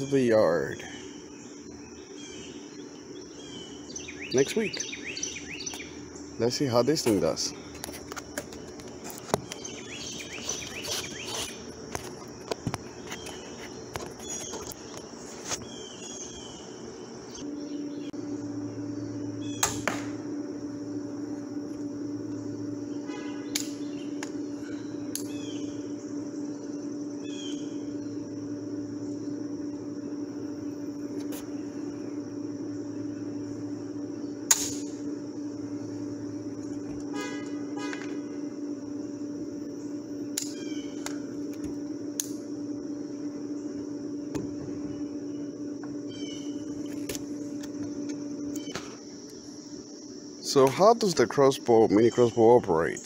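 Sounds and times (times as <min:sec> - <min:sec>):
birds chirping: 0:00.0 - 0:53.0
low hum: 0:00.0 - 0:53.0.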